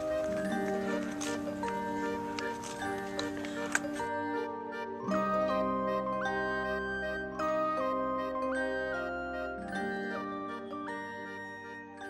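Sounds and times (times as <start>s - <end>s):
slow gentle background music: 0.0s - 12.0s.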